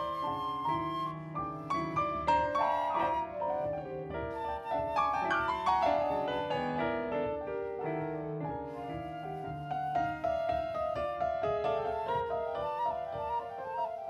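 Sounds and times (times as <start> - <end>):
flute: 0.0 - 14.0
piano: 0.0 - 14.0.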